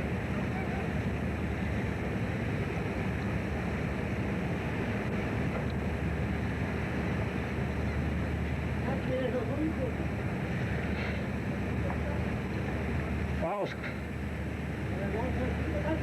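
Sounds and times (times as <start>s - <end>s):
boat engine droning: 0.0s - 16.0s
sea noise: 0.0s - 16.0s
wind: 0.0s - 16.0s.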